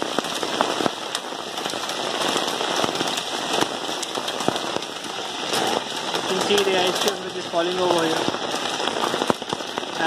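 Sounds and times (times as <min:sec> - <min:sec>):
hailstones striking hard surfaces: 0:00.0 - 0:10.0
rain hiss: 0:00.0 - 0:10.0.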